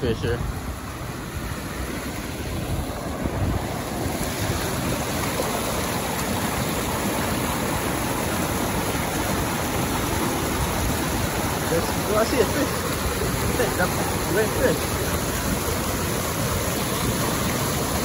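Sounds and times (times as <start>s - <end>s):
turbulent water rushing: 0.0s - 18.0s.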